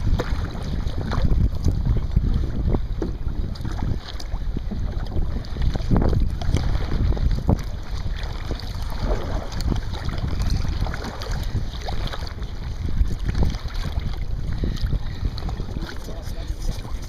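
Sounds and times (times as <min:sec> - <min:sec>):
water sloshing around kayak: 0:00.0 - 0:17.0
wind rumbling on microphone: 0:00.0 - 0:17.0.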